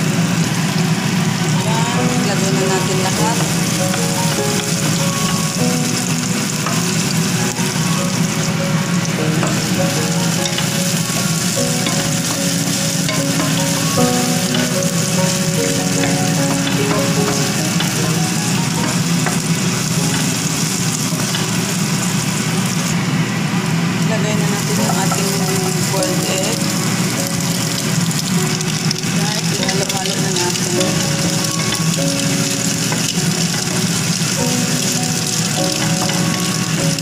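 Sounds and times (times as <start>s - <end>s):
vegetables sizzling in hot oil: 0.0s - 37.0s.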